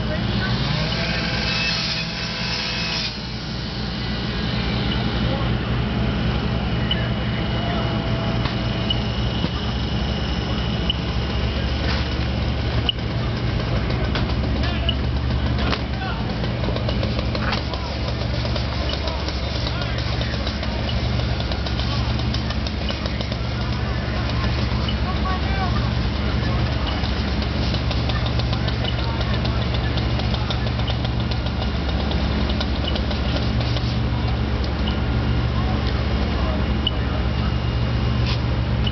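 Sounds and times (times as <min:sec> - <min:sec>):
engine idling: 0:02.2 - 0:38.9.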